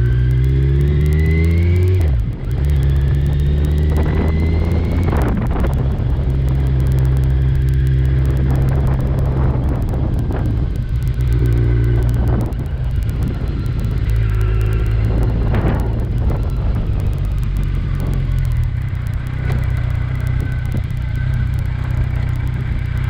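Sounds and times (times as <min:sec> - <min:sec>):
motorcycle engine accelerating: 0:00.0 - 0:23.0
wind noise: 0:00.0 - 0:23.0.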